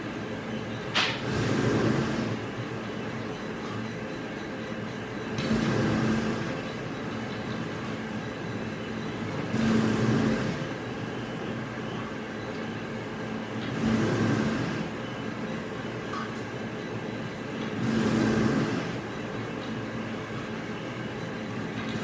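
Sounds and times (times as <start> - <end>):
industrial machine humming: 0.0 - 22.0.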